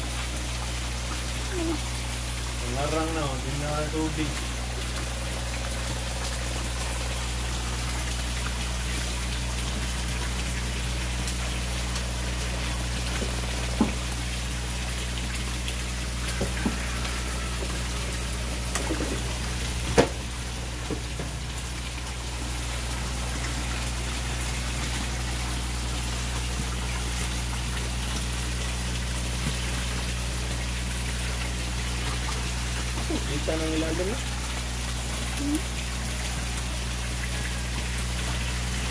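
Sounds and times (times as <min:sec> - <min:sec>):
water pouring into pond: 0:00.0 - 0:38.9.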